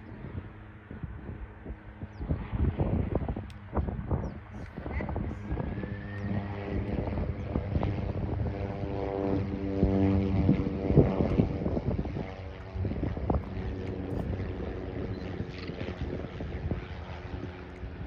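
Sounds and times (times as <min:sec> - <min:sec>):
jet engines running: 0:00.0 - 0:18.0
wind buffeting microphone: 0:00.0 - 0:18.0.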